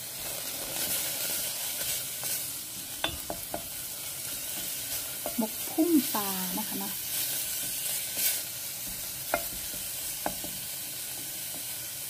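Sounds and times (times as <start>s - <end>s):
oil sizzling: 0.0s - 12.0s.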